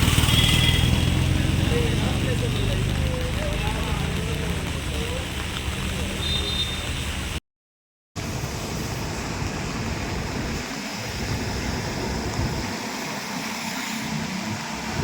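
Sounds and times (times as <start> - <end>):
heavy rain: 0.0 - 7.4, 8.2 - 15.0
traffic on a wet road: 0.0 - 7.4, 8.2 - 15.0.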